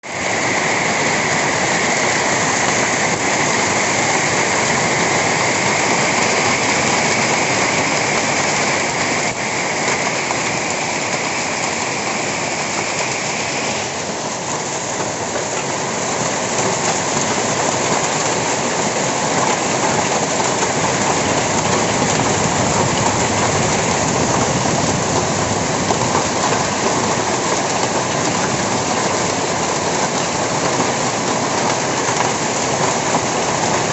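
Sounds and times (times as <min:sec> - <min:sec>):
hail and heavy rain pelting: 0:00.1 - 0:33.9.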